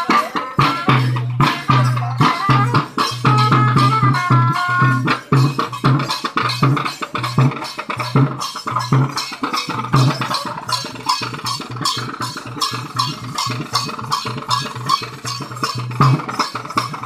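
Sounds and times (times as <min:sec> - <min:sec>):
hand drums beaten fast: 0:00.0 - 0:17.0.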